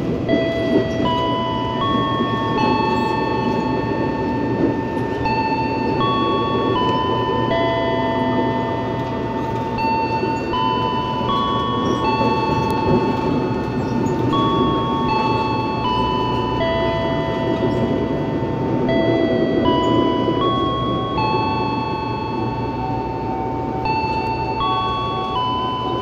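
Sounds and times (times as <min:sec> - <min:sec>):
soft chiming background music: 0:00.0 - 0:26.0
train rumbling inside carriage: 0:00.0 - 0:26.0.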